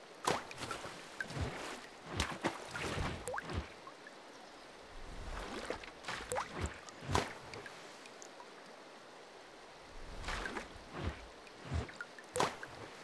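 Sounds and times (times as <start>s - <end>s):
water splashing: 0.2s - 4.1s, 4.9s - 8.5s, 9.9s - 13.0s.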